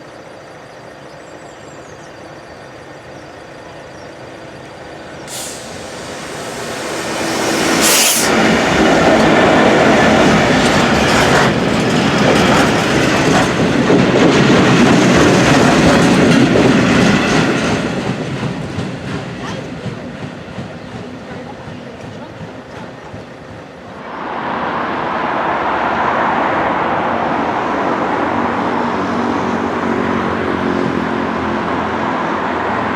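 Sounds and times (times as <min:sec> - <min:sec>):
train passing close by: 0:00.0 - 0:32.9.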